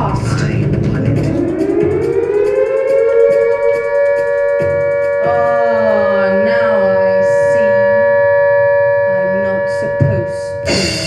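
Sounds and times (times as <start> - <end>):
wavering voice-like pitch: 0.0 - 10.8
siren-like steady tone: 1.0 - 11.0.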